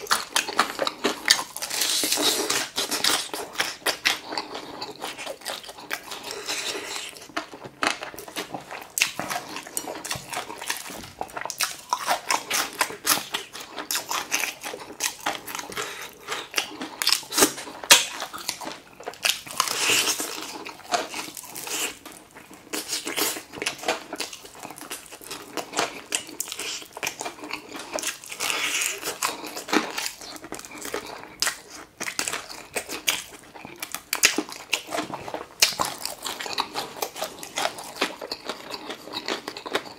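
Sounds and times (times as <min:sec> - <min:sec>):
crunching fried chicken: 0:00.0 - 0:39.9
wet chewing: 0:00.0 - 0:39.9.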